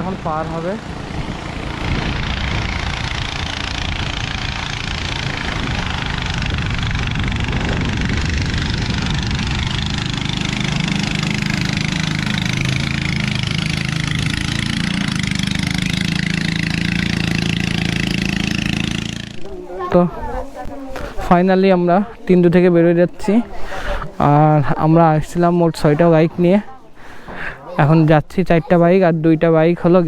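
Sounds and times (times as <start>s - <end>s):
boat engine running: 0.0s - 24.8s.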